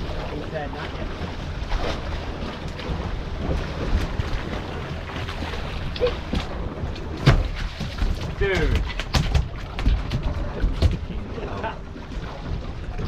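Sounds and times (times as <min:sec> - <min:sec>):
steady low rumble: 0:00.0 - 0:13.0
water against hull: 0:00.0 - 0:13.0
wind buffeting microphone: 0:00.0 - 0:13.0.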